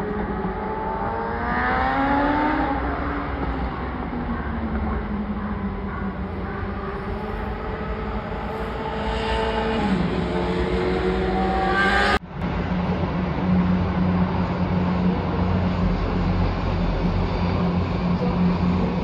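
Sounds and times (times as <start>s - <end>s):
city traffic noise: 0.0s - 19.0s
vehicle accelerating: 0.0s - 19.0s.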